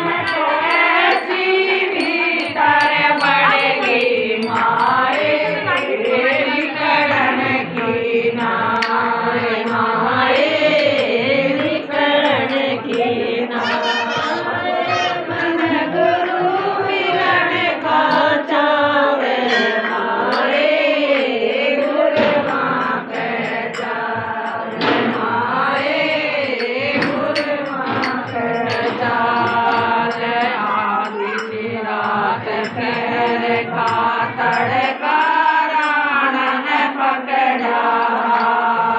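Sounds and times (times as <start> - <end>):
hand claps keeping time: 0.0 - 19.0, 19.6 - 37.0, 37.8 - 38.9
women singing together: 0.0 - 38.9.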